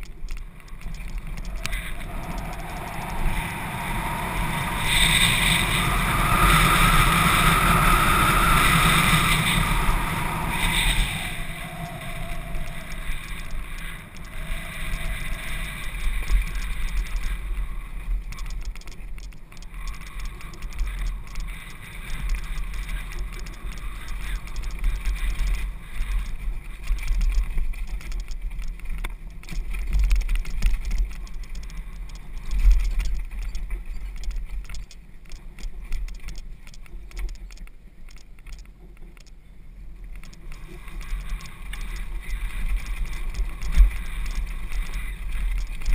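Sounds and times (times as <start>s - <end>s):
bike rattling over bumps: 0.0s - 39.3s, 40.1s - 45.9s
wind and ground rumble: 0.0s - 45.9s.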